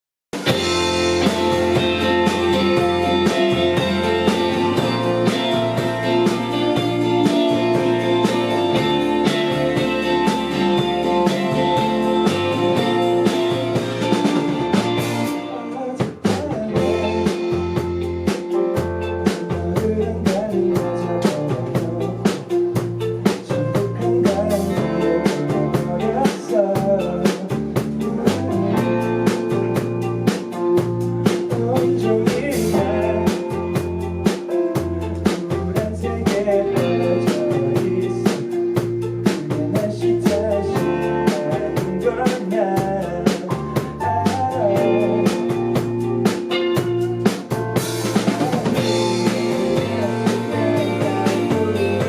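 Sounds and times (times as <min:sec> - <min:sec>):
drum kit steady beat: 0:00.3 - 0:52.0
band playing: 0:00.4 - 0:52.0.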